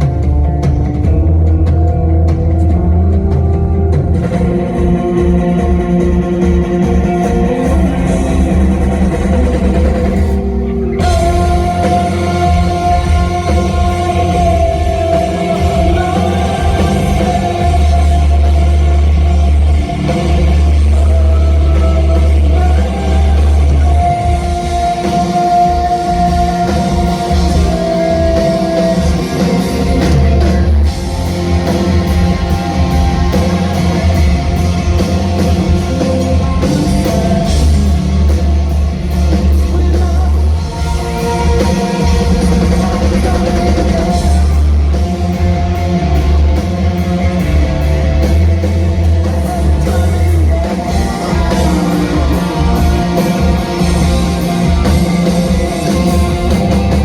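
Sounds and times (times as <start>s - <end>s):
distorted electric guitars: 0.0s - 57.0s
drum kit: 0.0s - 57.0s
heavy bass: 0.0s - 57.0s
person singing: 0.0s - 57.0s.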